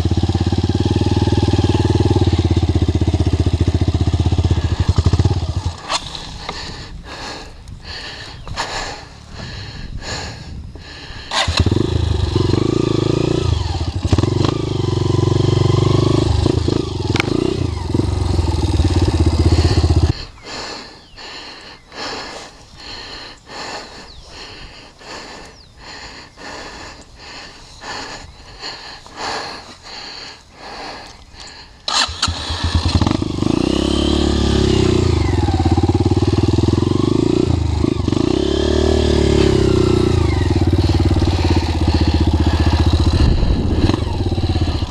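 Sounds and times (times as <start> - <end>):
motorcycle engine revving: 0.0 - 21.4, 23.2 - 44.9.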